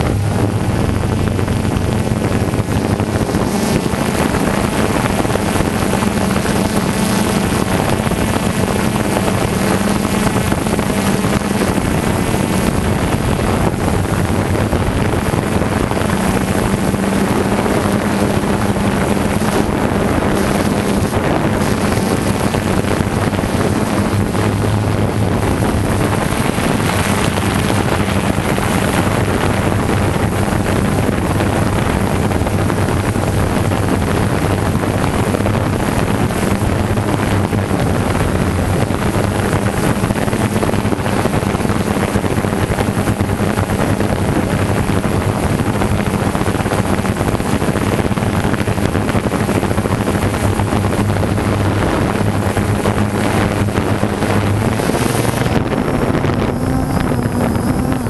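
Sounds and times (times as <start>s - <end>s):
drone motors and propellers humming: 0.0s - 58.0s.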